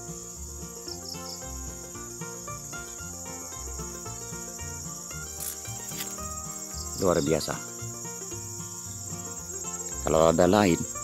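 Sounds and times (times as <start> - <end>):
insect chorus shrilling: 0.0 - 11.0
soft background music: 0.0 - 11.0.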